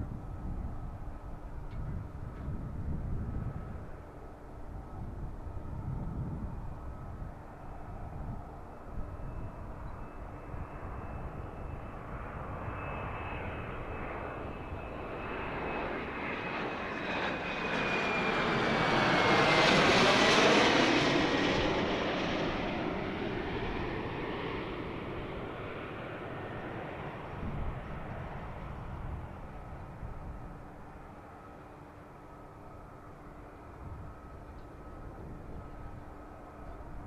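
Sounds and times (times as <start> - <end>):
jet engine passing by: 0.0 - 37.0.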